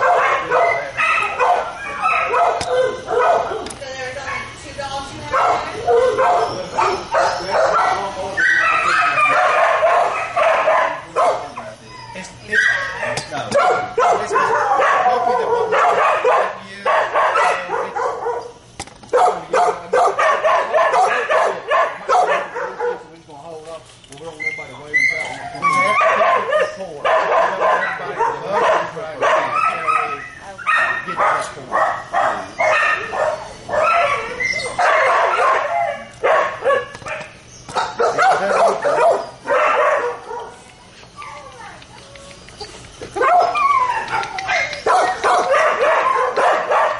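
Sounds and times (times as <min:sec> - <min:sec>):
dogs barking: 0:00.0 - 0:23.3, 0:24.3 - 0:46.9.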